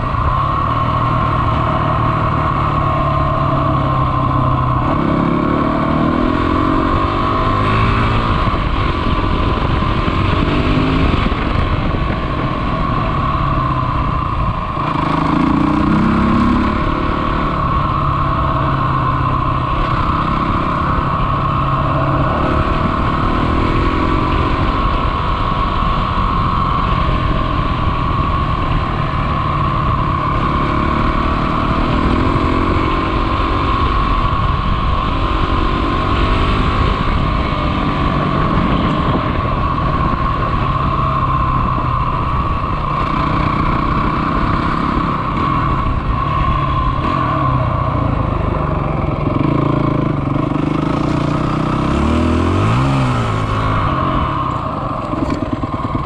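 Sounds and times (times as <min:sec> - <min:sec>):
dirt bike engine accelerating: 0:00.0 - 0:56.0.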